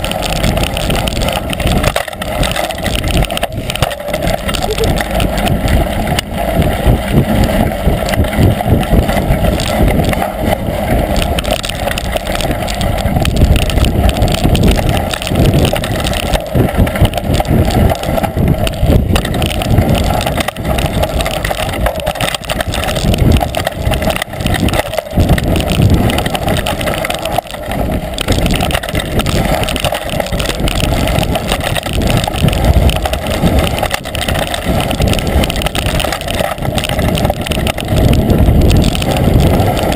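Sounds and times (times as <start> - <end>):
tyres and wind rumble: 0.0 - 39.9.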